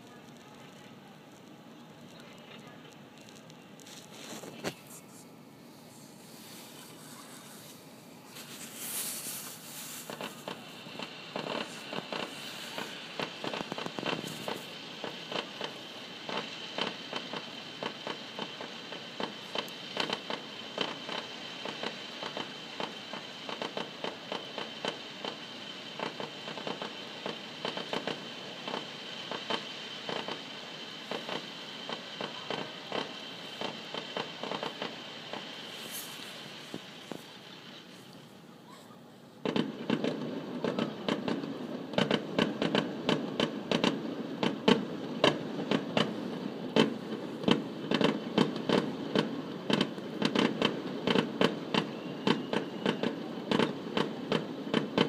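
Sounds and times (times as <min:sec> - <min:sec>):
distant fireworks bangs and crackling: 0:06.1 - 0:38.2, 0:39.4 - 0:55.0.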